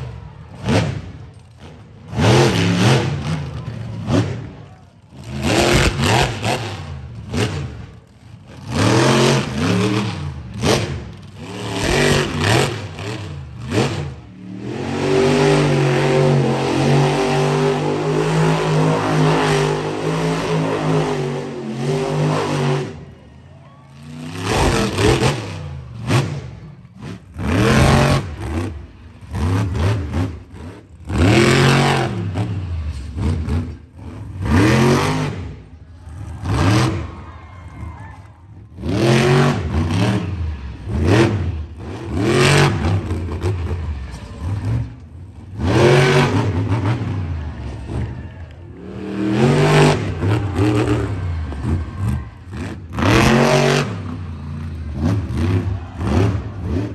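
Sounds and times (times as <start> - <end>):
monster truck engine revving: 0.0 - 56.9.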